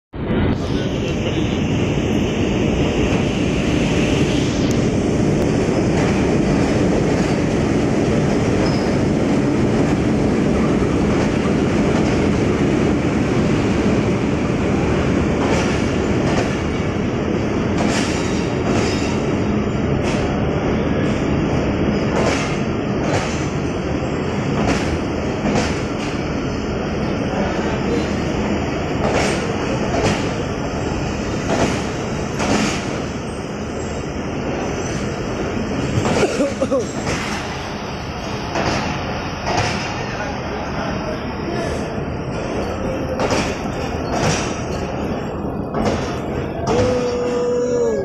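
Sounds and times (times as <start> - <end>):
train wheels rumbling on rails: 0.1 - 48.0.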